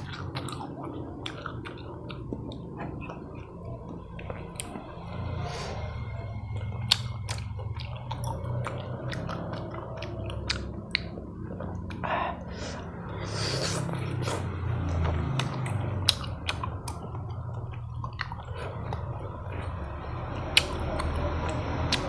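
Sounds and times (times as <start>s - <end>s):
chewing and mouth noises: 0.0s - 22.0s.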